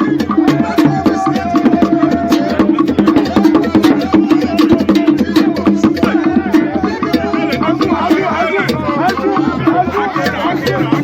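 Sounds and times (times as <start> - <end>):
fast percussion music: 0.0 - 11.0.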